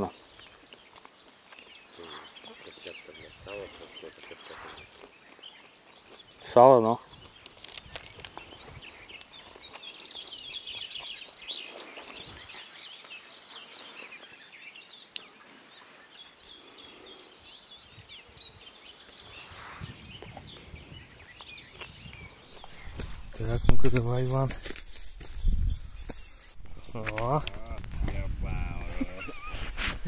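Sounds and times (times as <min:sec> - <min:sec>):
small birds chirping: 0:00.0 - 0:29.8
faint outdoor background noise: 0:00.0 - 0:30.0.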